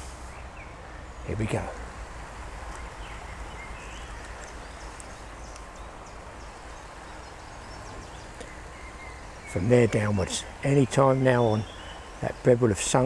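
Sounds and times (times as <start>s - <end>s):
river water rushing: 1.8s - 13.0s
faint bird chirps: 2.6s - 13.0s.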